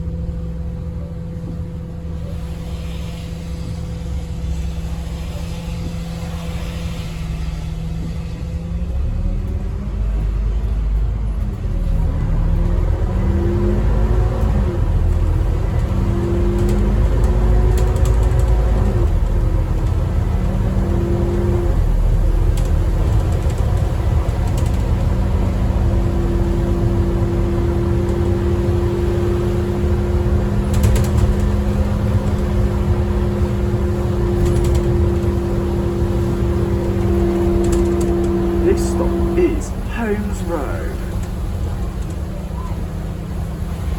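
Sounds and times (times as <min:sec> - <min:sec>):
bus diesel engine rumble: 0:00.0 - 0:43.9.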